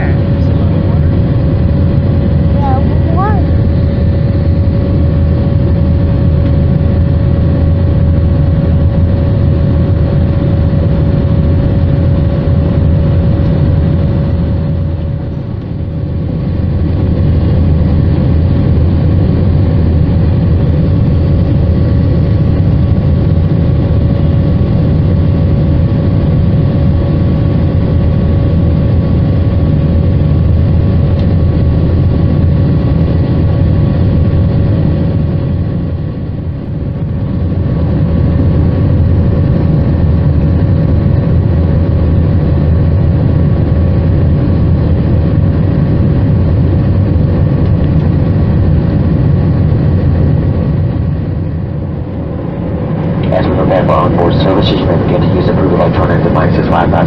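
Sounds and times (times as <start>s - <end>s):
constant hum: 0.0s - 57.0s
jet engines low rumble: 0.0s - 57.0s.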